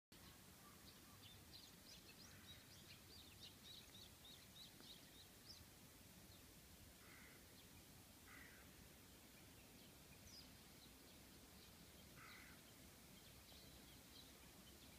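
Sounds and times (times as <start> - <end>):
outdoor background hiss: 0.1 - 14.9
birds chirping: 0.2 - 14.9.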